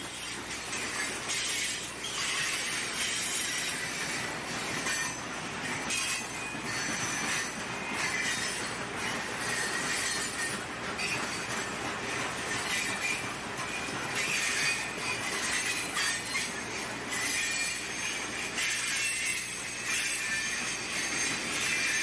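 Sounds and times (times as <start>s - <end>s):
freight train wheels rolling: 0.0s - 22.0s
high wheel squeal: 0.0s - 22.0s.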